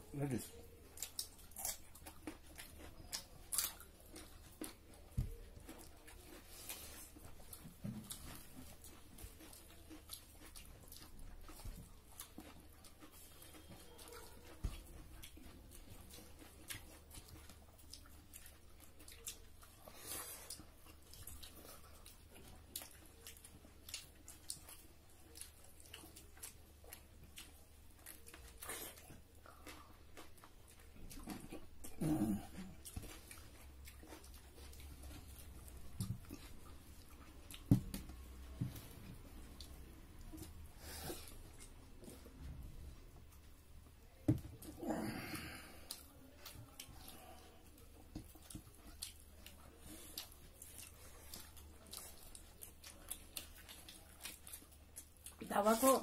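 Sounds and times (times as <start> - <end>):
chewing: 0.2 - 56.0.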